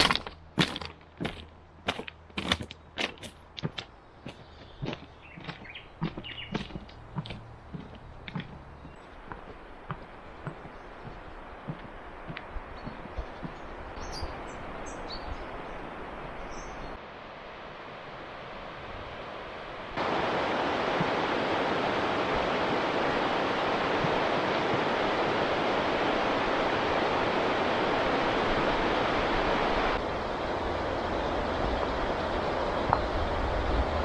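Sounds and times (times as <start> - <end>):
river rushing: 5.4 - 34.0.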